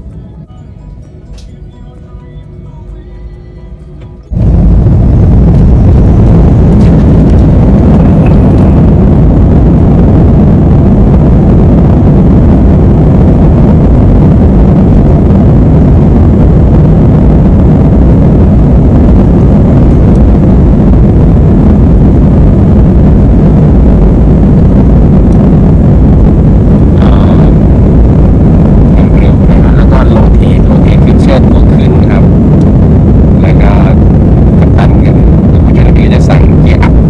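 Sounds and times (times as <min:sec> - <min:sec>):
airliner jet engine rumble in cabin: 0:00.0 - 0:37.0.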